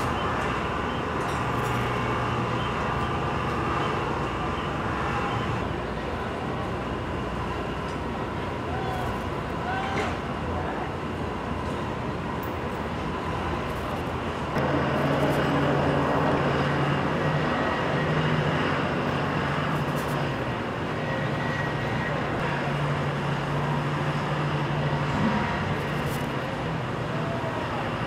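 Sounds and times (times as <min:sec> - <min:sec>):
ship machinery rumble: 0:00.0 - 0:28.0
wind: 0:00.0 - 0:28.0.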